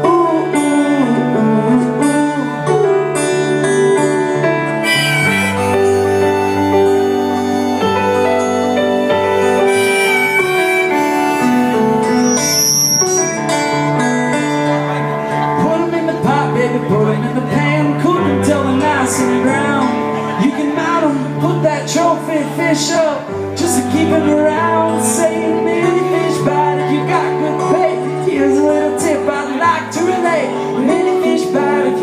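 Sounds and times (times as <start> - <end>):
live blues band: 0.0 - 32.0.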